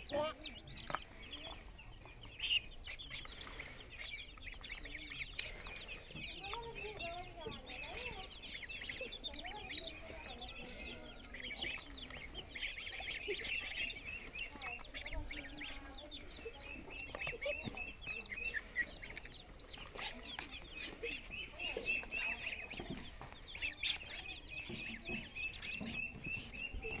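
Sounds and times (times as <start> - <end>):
chicks and ducklings peeping: 0.0 - 27.0.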